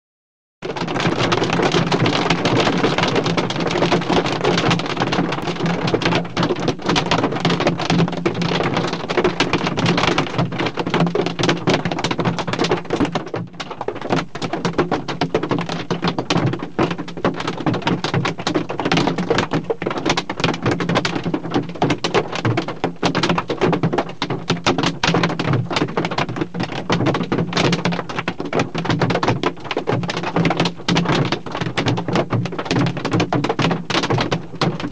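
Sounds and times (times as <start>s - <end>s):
hail and rain on a car roof: 0.7s - 34.9s.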